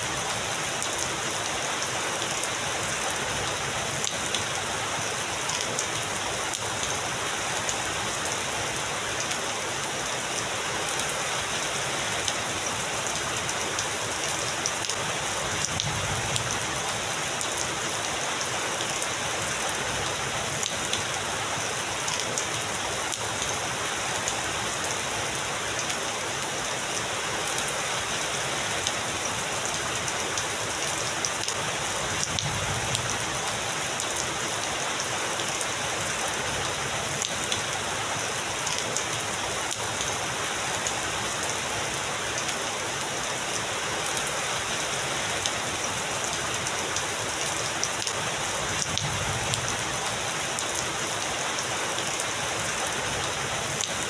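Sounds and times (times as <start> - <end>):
heavy rain falling: 0.0 - 54.0
raindrops ticking on surfaces: 0.0 - 54.0.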